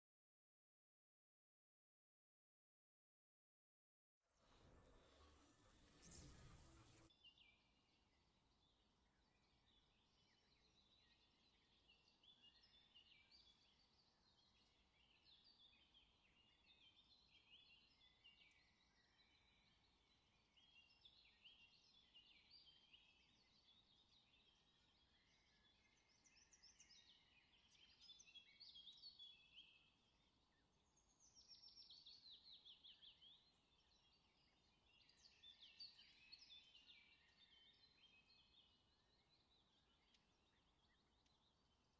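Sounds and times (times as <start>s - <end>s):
small birds chirping: 4.6s - 41.9s.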